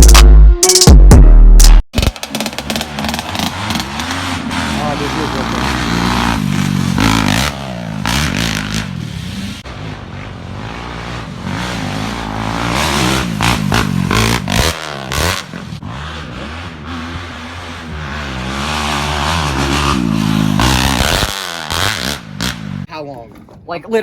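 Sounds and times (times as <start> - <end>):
engine revving: 2.0 - 22.9.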